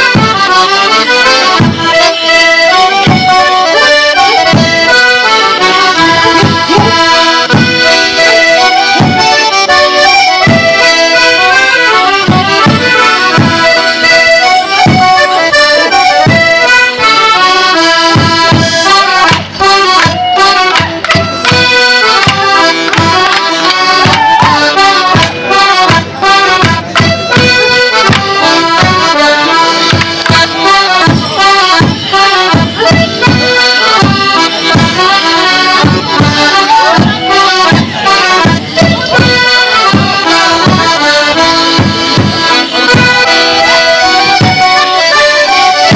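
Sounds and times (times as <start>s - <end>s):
steady drum beat: 0.0s - 17.2s, 18.1s - 45.0s.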